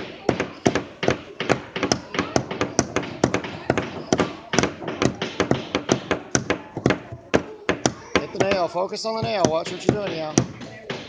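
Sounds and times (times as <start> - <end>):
hammers driving nails into wood: 0.0 - 11.0.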